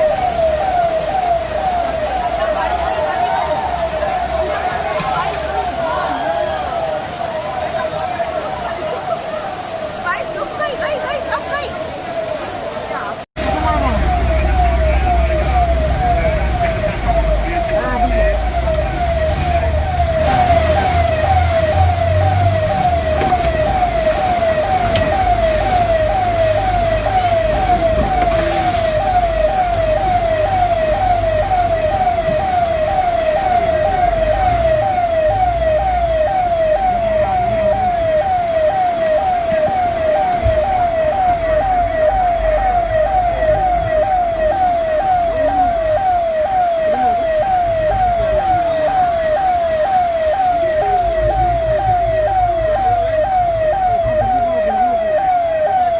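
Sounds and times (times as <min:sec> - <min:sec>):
electronic siren falling tone: 0:00.0 - 0:12.4, 0:13.4 - 0:55.9.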